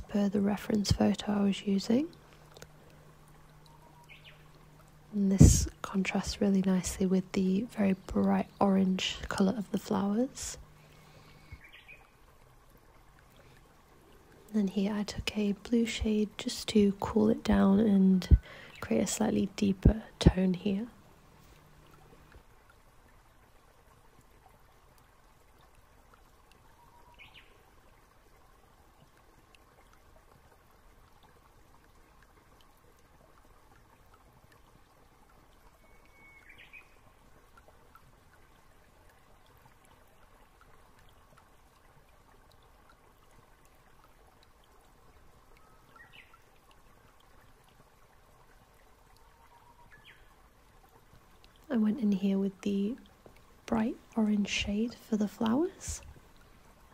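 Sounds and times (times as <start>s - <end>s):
faint hiss: 0.0s - 56.9s.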